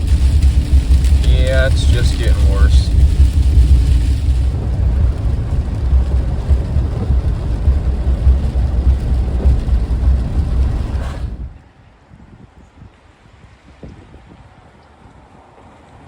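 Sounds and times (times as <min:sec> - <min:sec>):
wind buffeting microphone: 0:00.0 - 0:15.5.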